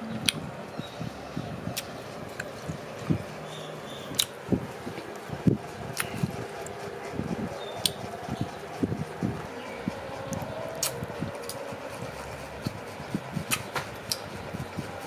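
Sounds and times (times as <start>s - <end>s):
close chewing: 0.0s - 15.0s.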